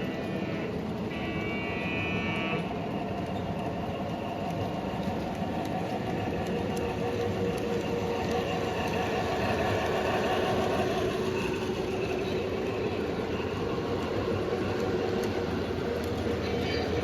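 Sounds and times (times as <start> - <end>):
wheels rolling on rail: 0.0 - 17.0.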